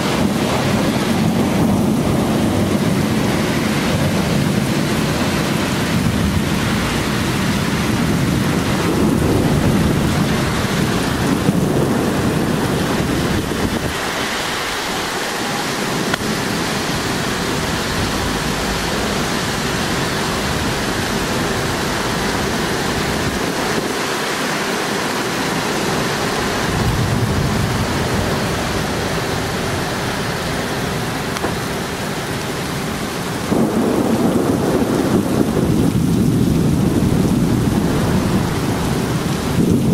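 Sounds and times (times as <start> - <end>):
heavy rain falling: 0.0 - 39.9
low rolling thunder: 0.0 - 39.9.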